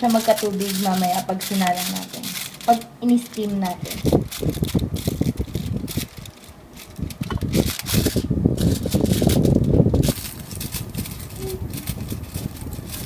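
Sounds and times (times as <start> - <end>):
aluminium foil crinkling: 0.0 - 13.0
rubbing and handling noise: 0.0 - 13.0.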